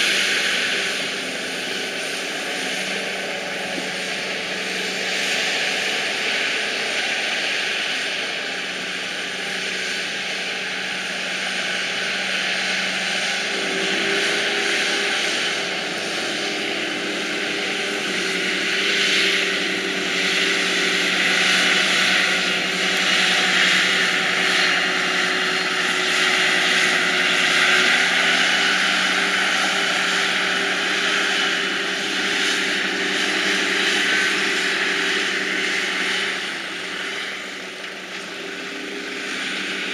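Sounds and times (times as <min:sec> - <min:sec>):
loud rushing whine: 0:00.0 - 0:39.9
tractor and harvester engines: 0:00.0 - 0:39.9.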